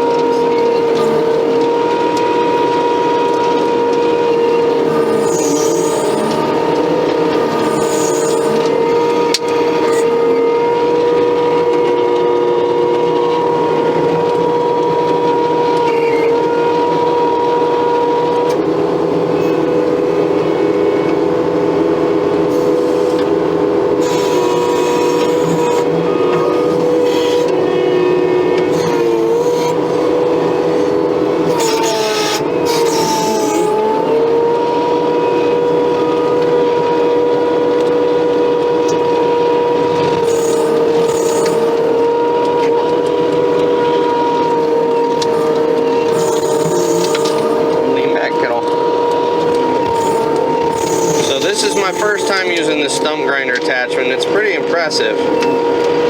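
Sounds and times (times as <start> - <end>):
stump grinder machine drone: 0.0 - 56.0.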